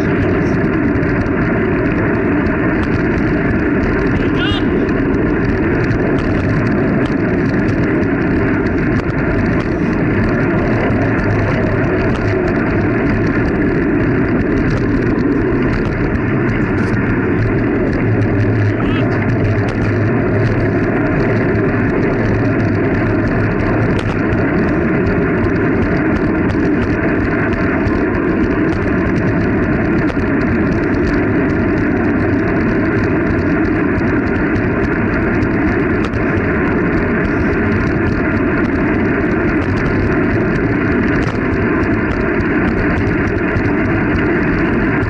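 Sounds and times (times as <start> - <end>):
road noise: 0.0 - 45.0
wind rush on microphone: 0.0 - 45.0.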